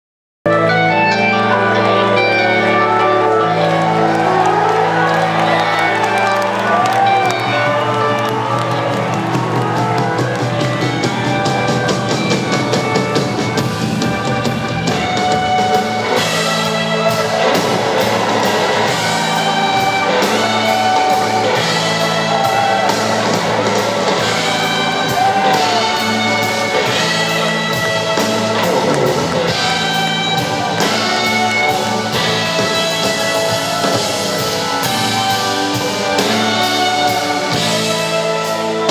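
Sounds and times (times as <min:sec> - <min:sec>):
drums: 0:00.5 - 0:38.9
guitars: 0:00.5 - 0:38.9
keyboards: 0:00.5 - 0:38.9.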